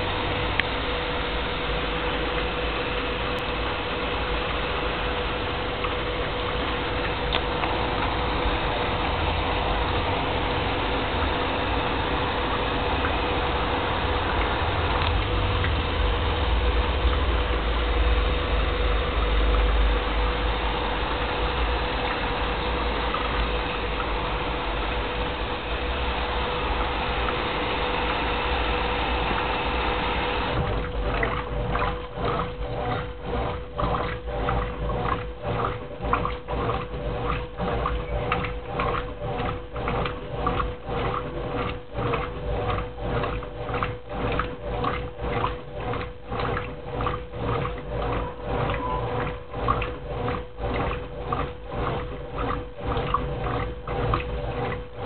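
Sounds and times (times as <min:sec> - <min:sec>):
washing machine sloshing: 0:00.0 - 0:55.0
washing machine water rushing: 0:00.0 - 0:55.0.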